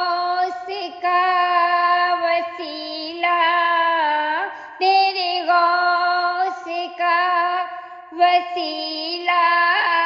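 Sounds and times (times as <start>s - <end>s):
woman singing devotional song: 0.0s - 10.0s.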